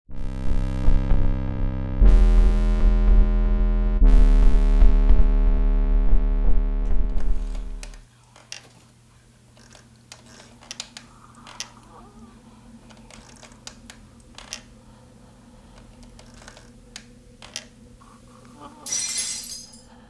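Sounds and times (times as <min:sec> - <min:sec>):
steady low hum: 0:00.1 - 0:08.2, 0:10.8 - 0:20.0.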